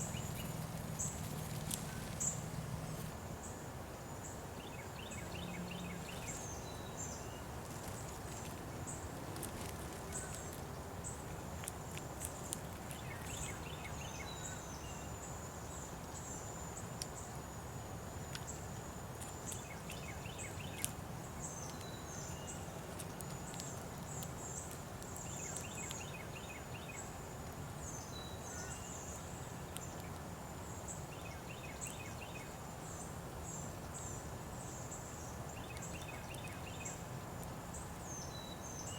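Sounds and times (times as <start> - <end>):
small birds chirping: 0.0 - 3.6, 4.2 - 17.5, 18.3 - 38.9
steady low background hum: 0.0 - 38.9.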